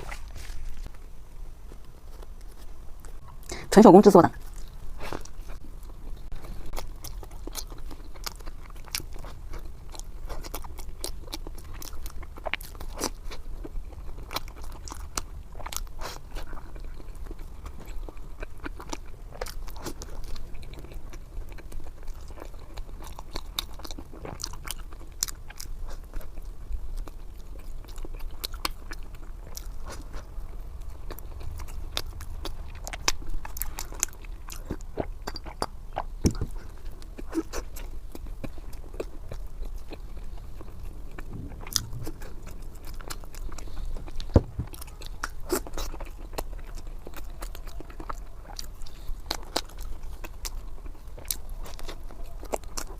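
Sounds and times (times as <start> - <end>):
person chewing crunchy food: 0.0 - 3.5, 4.4 - 52.9.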